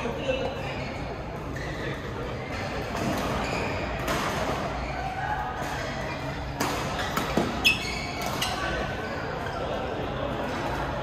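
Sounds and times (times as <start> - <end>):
background murmur: 0.0 - 11.0.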